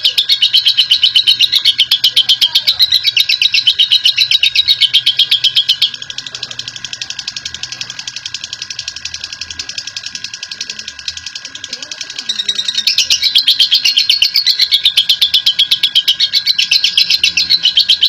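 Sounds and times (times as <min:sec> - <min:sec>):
lovebird chattering: 0:00.0 - 0:18.0.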